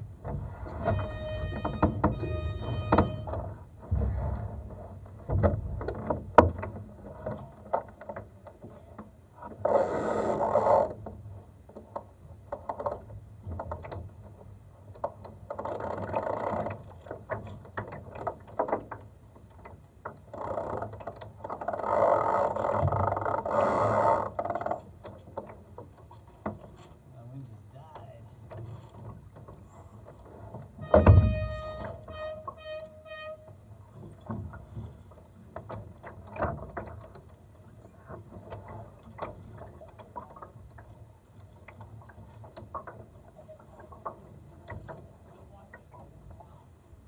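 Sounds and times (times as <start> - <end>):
clicks and knocks from rigging: 0.0 - 27.1, 27.8 - 46.7
water washing against hull: 0.0 - 47.0.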